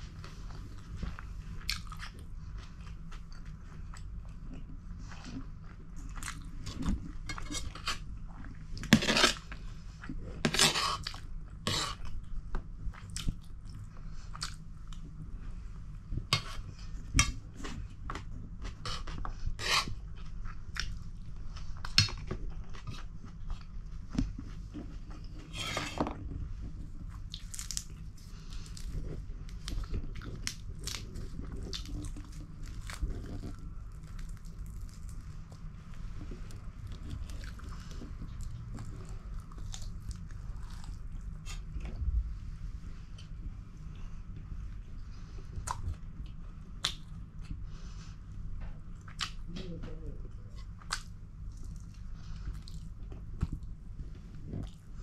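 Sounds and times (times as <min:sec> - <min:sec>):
chewing and crunching food: 0:00.1 - 0:42.1, 0:43.1 - 0:55.0.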